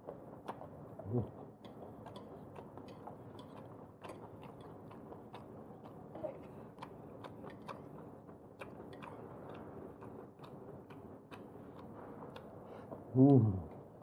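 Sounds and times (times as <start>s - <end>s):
person chewing noodles: 0.4s - 13.1s.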